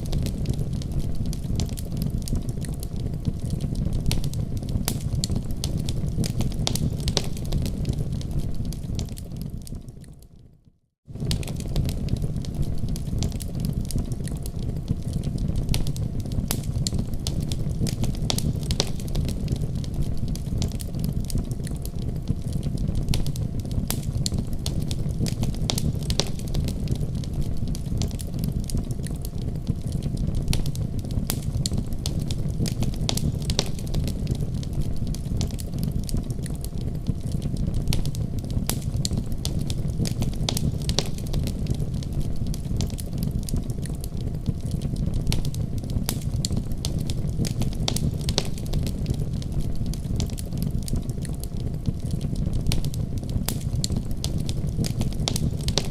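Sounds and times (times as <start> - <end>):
low fire rumble: 0.0 - 55.9
wood fire crackling: 0.0 - 55.9.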